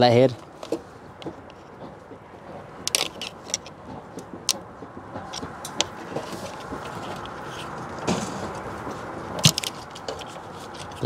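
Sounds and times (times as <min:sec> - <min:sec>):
plastic clicks and scrapes: 0:00.4 - 0:11.0.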